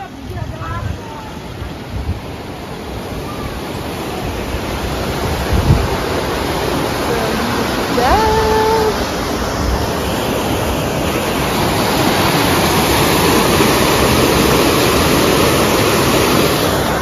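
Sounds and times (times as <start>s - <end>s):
water rushing through channel: 0.0s - 17.0s.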